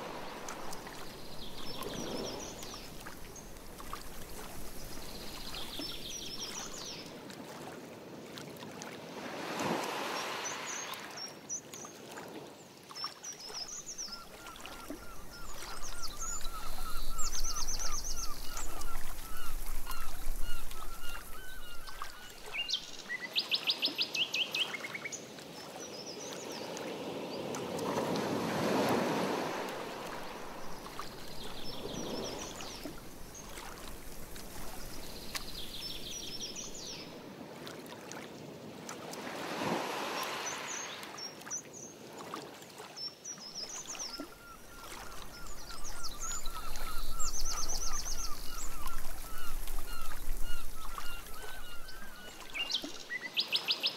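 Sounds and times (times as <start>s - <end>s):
paddle swishing water: 0.0s - 23.8s, 24.6s - 43.0s, 43.6s - 53.2s.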